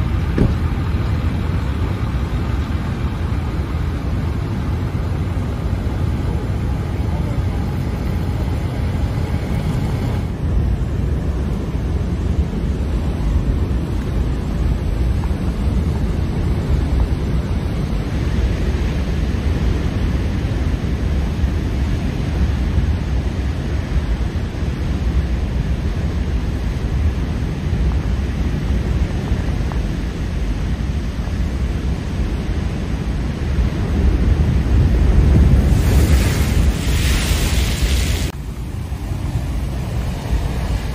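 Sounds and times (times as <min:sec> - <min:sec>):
heavy surf crashing: 0:00.0 - 0:40.9
wind buffeting microphone: 0:00.0 - 0:40.9.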